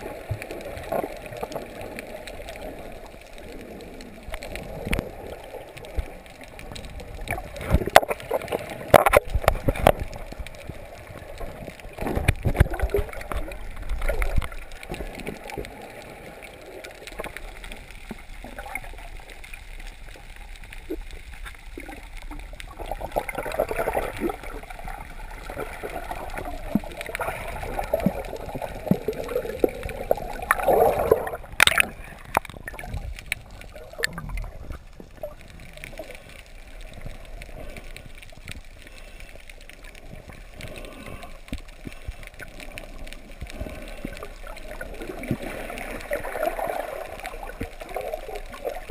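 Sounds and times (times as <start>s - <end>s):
water gurgling and bubbling: 0.0s - 19.5s, 21.7s - 38.4s, 39.8s - 48.9s
small clicks: 0.2s - 46.5s.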